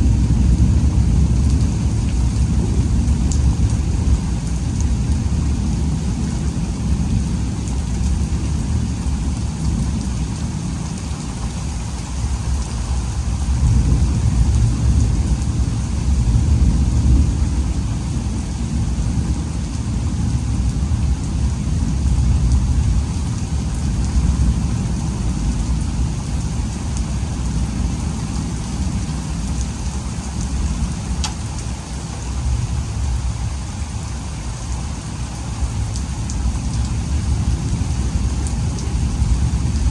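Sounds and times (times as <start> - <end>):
deep low thunder rumble: 0.0 - 33.6
heavy rain falling: 0.0 - 39.9.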